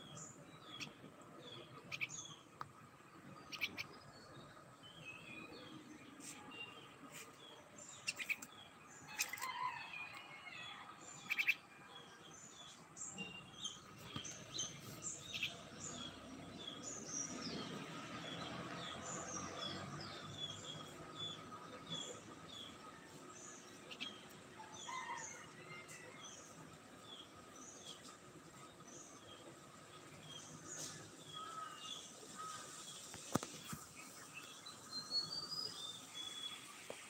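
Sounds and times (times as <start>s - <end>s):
bird chirping: 0.0s - 9.4s, 11.0s - 25.1s, 26.2s - 36.8s.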